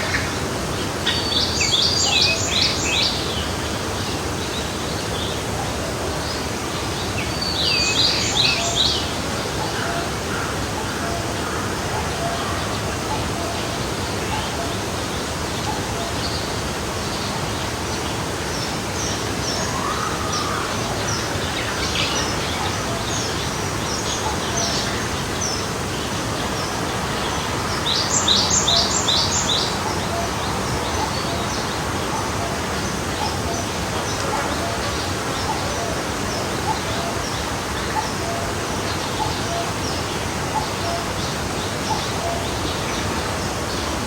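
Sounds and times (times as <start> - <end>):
stream flowing: 0.0 - 44.0.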